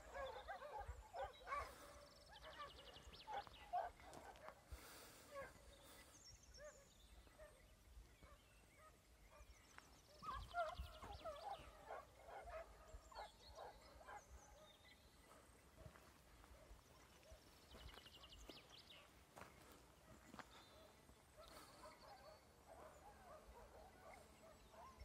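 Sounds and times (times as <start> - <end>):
distant hounds baying: 0.0 - 25.0.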